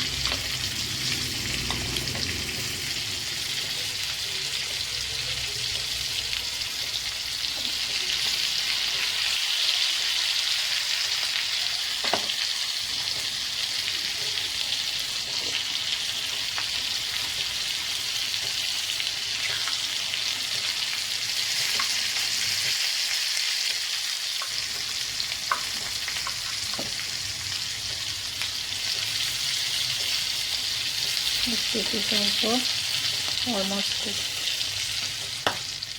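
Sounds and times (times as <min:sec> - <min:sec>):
food sizzling in hot oil: 0:00.0 - 0:35.9.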